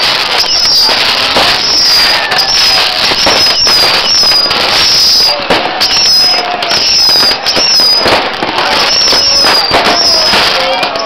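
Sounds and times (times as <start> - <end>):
firework bangs: 0.0 - 11.0
fireworks crackling: 0.0 - 11.0
whistling rockets: 0.0 - 11.0.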